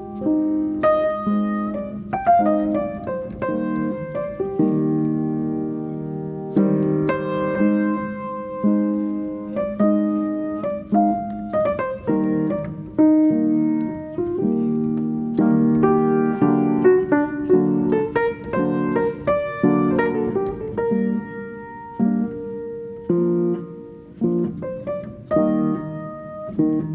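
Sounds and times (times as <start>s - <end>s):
calm piano music: 0.0s - 26.9s.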